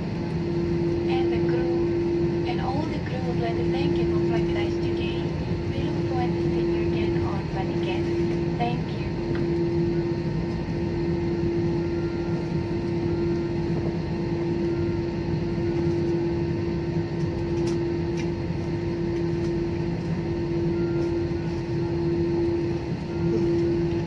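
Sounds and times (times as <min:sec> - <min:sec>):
jet engine drone in cabin: 0:00.0 - 0:24.0.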